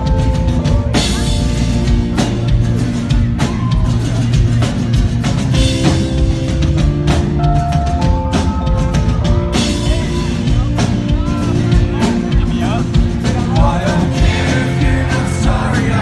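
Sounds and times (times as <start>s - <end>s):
guitars and bass: 0.0s - 16.0s
loud drum kit: 0.0s - 16.0s.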